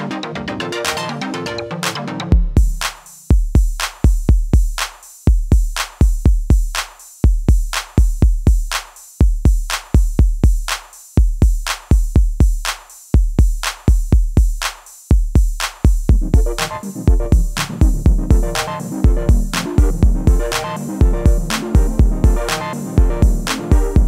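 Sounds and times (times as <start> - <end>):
drum-machine beat: 1.8 - 24.0.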